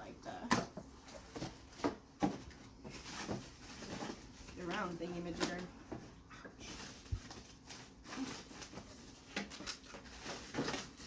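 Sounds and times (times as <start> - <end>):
packaging rustling: 0.7 - 11.0.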